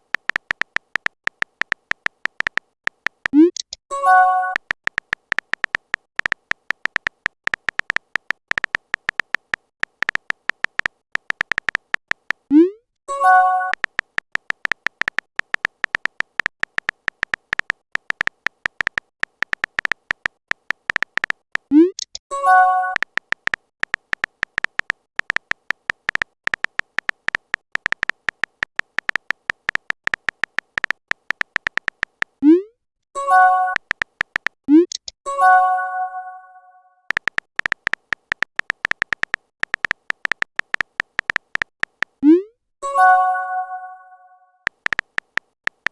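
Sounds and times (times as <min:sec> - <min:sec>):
clicky typing taps: 0:00.0 - 0:32.6, 0:33.4 - 0:35.2, 0:37.1 - 0:42.3, 0:44.7 - 0:45.9.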